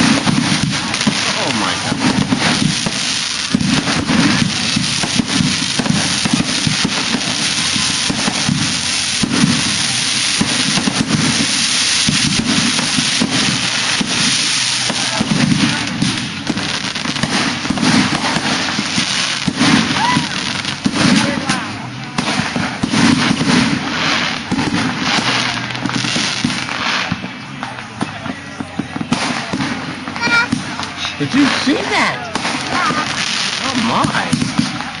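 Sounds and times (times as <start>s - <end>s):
fireworks banging and crackling: 0.0s - 35.0s.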